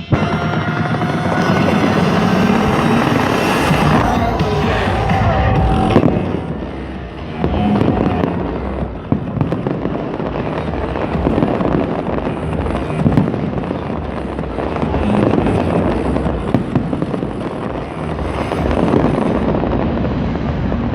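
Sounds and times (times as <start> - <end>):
fireworks bangs: 0.0 - 20.9
fireworks crackling rumble: 0.0 - 20.9
music playing: 0.0 - 20.9.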